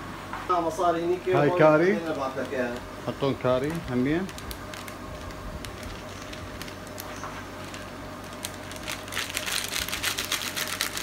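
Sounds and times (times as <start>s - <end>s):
kitchen hum: 0.0s - 11.0s
rapid crackling pops: 2.0s - 11.0s.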